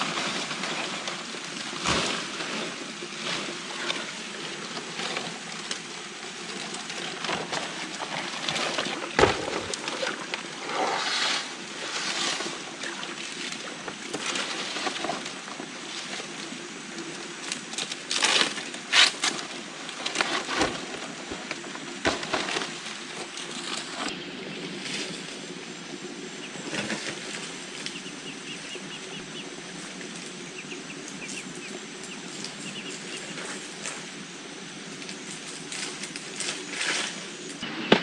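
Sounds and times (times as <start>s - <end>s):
palm fronds rustling: 0.0s - 38.0s.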